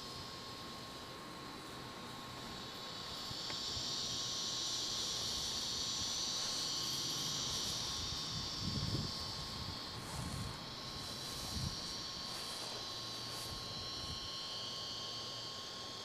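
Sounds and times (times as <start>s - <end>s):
insects buzzing in grass: 0.0s - 16.0s.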